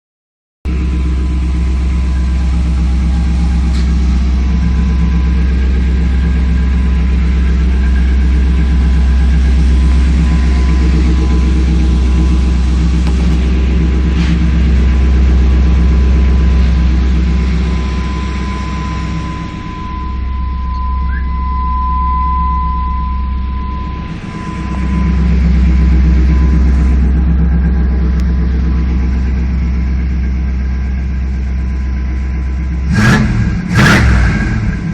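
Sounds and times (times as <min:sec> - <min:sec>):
car engine idling deep rumble: 0:00.6 - 0:34.9.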